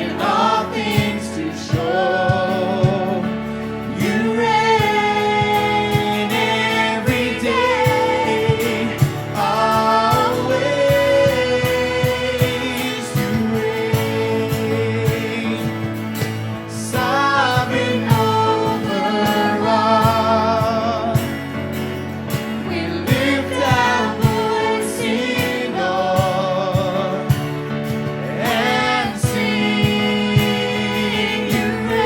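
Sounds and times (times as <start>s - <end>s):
worship band playing: 0.0s - 32.0s.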